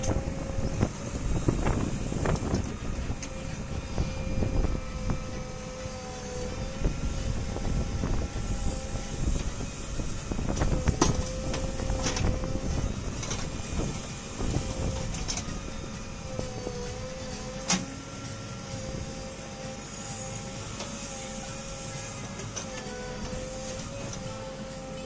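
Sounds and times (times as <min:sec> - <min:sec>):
diesel engine whine under load: 0:00.0 - 0:25.0.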